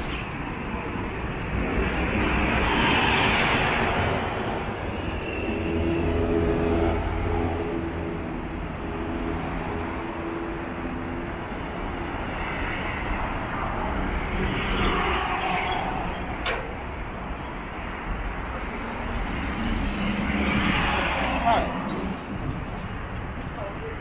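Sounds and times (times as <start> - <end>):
rumble of motor vehicles: 0.0 - 24.0.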